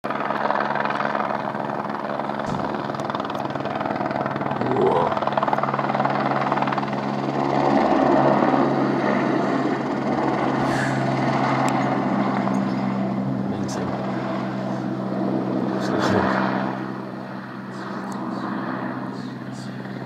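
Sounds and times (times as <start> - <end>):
helicopter flying overhead: 0.0 - 20.0.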